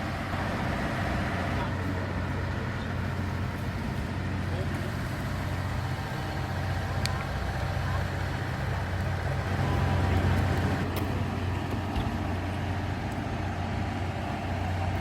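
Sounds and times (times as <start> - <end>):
continuous rumble: 0.0 - 15.0
diesel railcar engine drone: 0.0 - 15.0.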